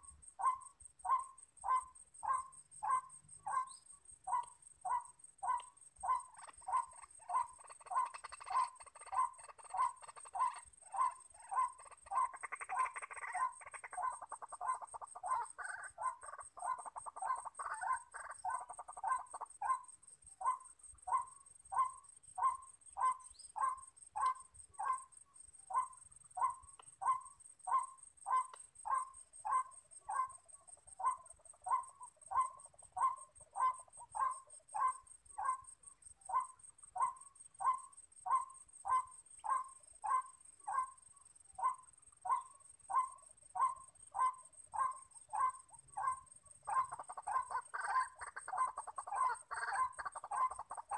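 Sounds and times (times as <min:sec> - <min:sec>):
bird croaking: 0:00.0 - 0:50.9.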